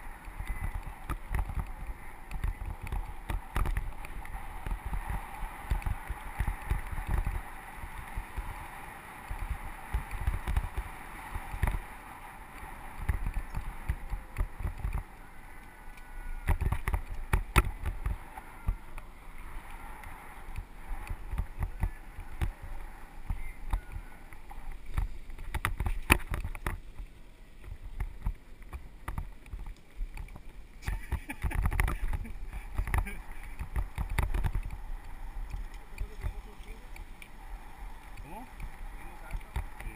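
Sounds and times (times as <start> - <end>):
tyres hissing on loose dirt: 0.0 - 39.9
wind buffeting microphone: 0.0 - 39.9.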